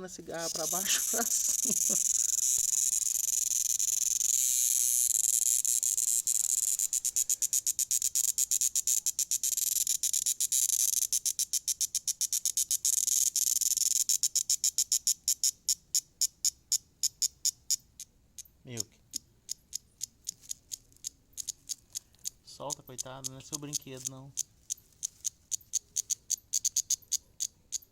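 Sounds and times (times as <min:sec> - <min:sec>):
cicada buzzing and chirping: 0:00.0 - 0:27.9.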